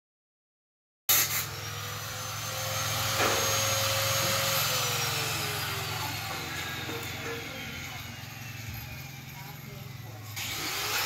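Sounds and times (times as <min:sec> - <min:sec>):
engine hum: 0:01.4 - 0:11.0.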